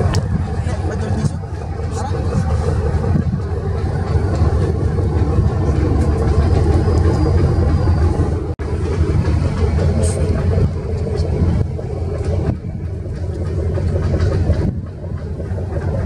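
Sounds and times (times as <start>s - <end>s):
ship engines rumbling: 0.0s - 16.0s.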